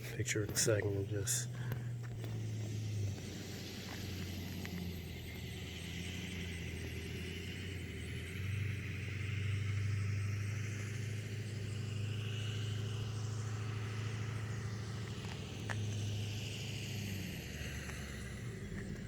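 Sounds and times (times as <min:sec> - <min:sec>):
vehicle engine rumbling: 0:00.0 - 0:19.0
hiss: 0:02.2 - 0:19.0.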